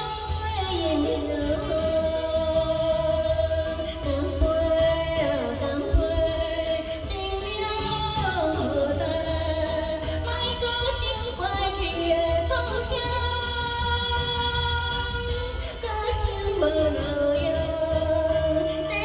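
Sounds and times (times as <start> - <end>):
instrumental backing with bass: 0.0 - 19.0
person singing: 0.0 - 19.0.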